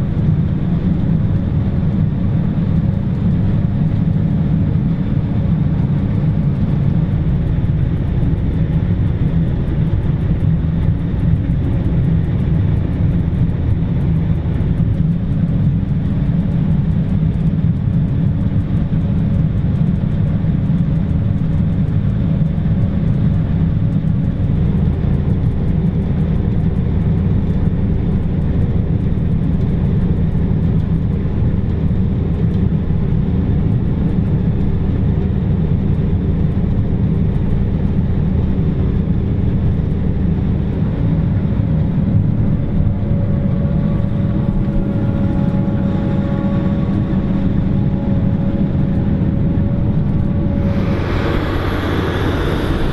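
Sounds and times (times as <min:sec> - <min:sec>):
harvester engine and chopping drone: 0:00.0 - 0:52.9.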